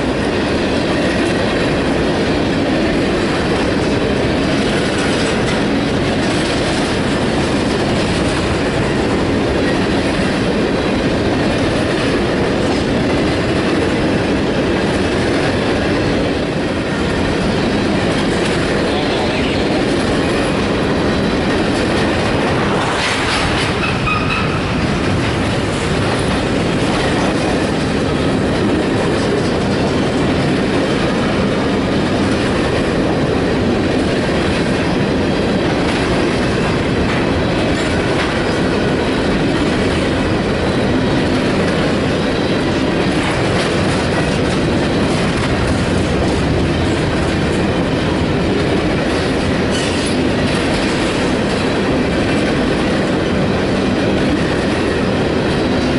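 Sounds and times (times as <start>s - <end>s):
steel wheels on rails: 0.0s - 55.9s.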